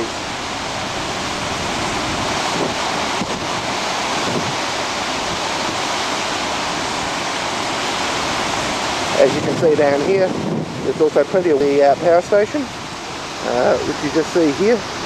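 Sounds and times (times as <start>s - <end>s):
rushing falling water: 0.0s - 15.0s.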